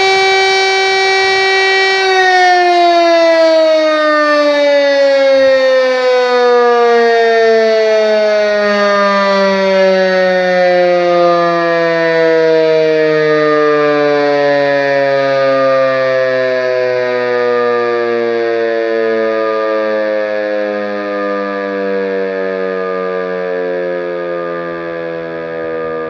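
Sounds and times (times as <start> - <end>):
siren winding down: 0.0 - 26.0.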